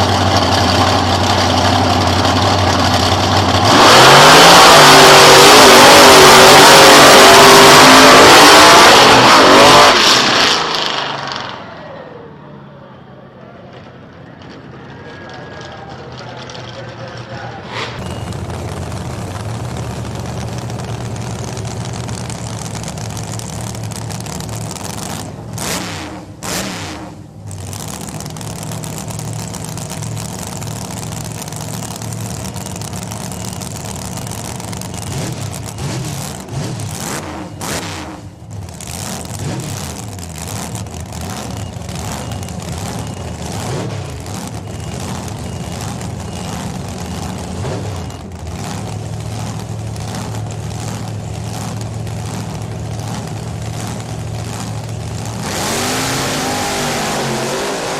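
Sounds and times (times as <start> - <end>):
vehicle engine running hard: 0.0 - 57.9.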